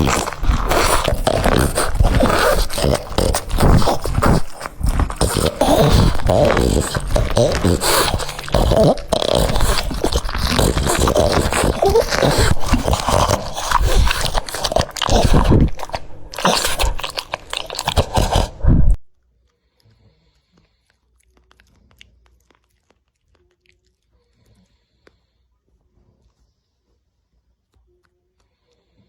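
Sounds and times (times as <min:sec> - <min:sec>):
dog crunching food: 0:00.0 - 0:18.7, 0:19.8 - 0:25.2.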